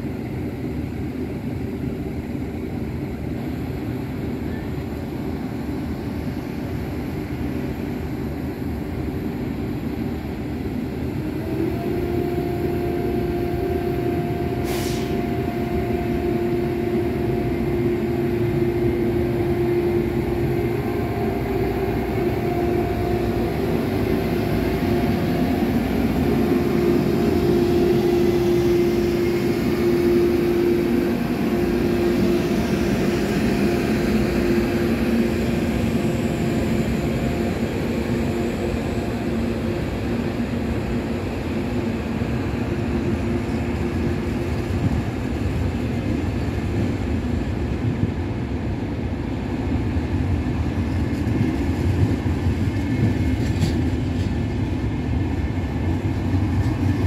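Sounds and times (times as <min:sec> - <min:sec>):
electric locomotive humming: 0:00.0 - 0:57.0
train coaches rumbling by: 0:00.0 - 0:57.0.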